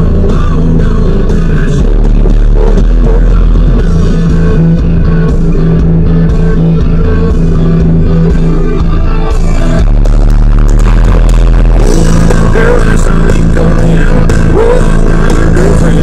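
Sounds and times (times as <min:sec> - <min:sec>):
loud rock music on car stereo: 0:00.0 - 0:16.0.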